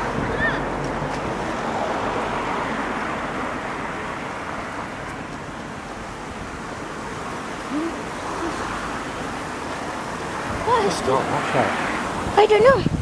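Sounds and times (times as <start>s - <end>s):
traffic noise: 0.0s - 13.0s
wind: 0.0s - 13.0s.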